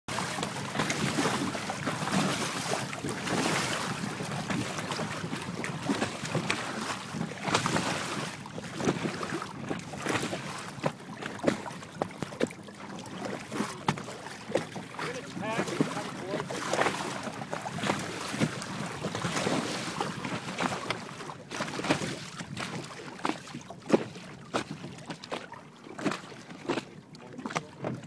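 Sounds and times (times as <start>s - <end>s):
waves slapping and splashing: 0.1s - 28.0s.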